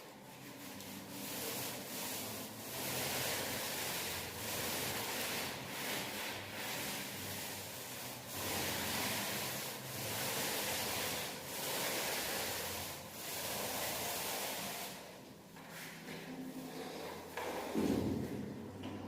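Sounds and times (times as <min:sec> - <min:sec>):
paint roller rolling on wall: 0:00.0 - 0:19.0.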